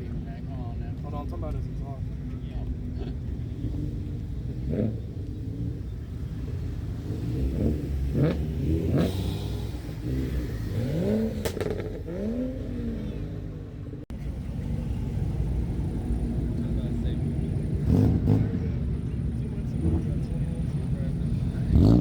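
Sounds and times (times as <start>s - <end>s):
engines idling: 0.0s - 22.0s
car engine revving: 2.9s - 22.0s.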